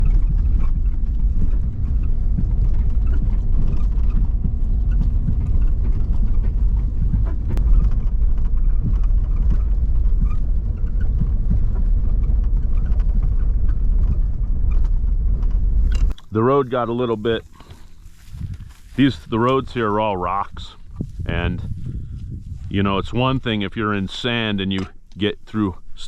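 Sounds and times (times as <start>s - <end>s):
wheels knocking over rocks: 0.0s - 21.6s
vehicle engine and tyres rumbling: 0.0s - 26.0s.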